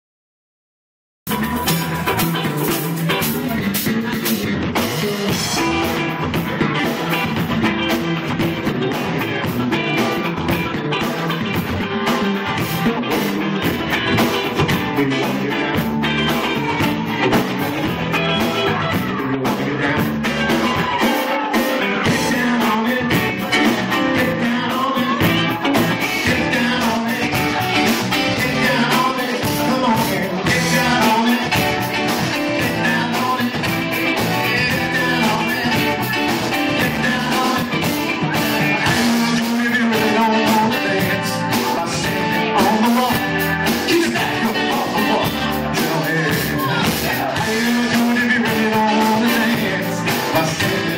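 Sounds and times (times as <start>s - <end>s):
live band playing: 1.3s - 50.9s
male lead singer: 1.3s - 50.9s
steady drum beat: 1.3s - 50.9s.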